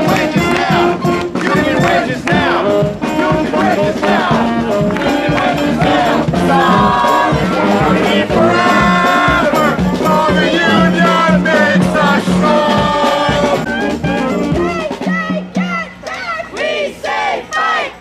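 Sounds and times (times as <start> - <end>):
crowd singing together: 0.0 - 18.0.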